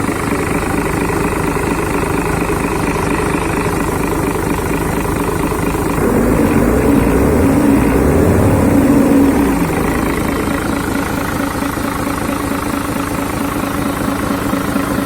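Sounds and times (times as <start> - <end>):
truck diesel engine revving: 0.4 - 13.3.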